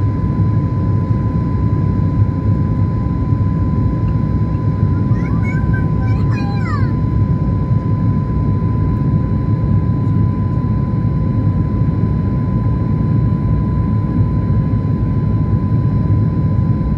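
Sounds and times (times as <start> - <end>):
airliner cabin rumble: 0.0 - 16.9.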